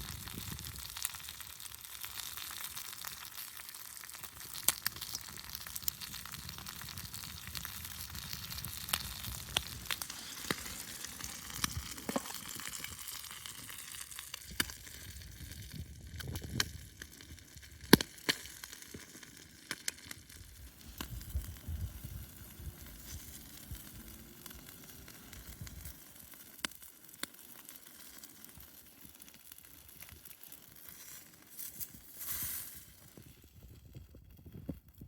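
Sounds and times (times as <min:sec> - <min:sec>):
bacon sizzling and popping: 0:00.0 - 0:35.0.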